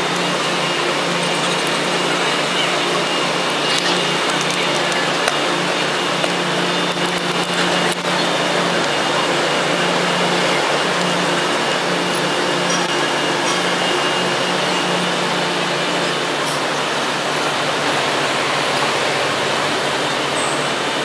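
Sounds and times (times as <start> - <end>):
city traffic: 0.0 - 21.0
construction site noise: 0.0 - 21.0
low machine hum: 0.0 - 21.0.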